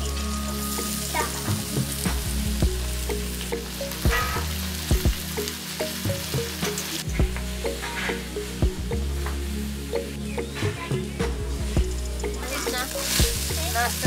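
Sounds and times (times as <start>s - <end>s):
rice sizzling in a wok: 0.0s - 14.0s.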